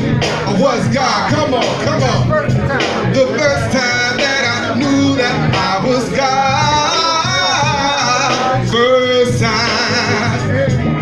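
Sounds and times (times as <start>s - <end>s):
backing music with low beat: 0.0s - 11.0s
man singing into microphone: 0.4s - 11.0s.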